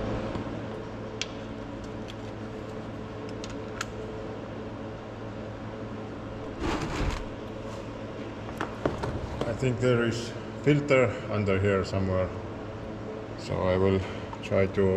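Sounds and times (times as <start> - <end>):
steady mechanical hum: 0.0 - 14.9.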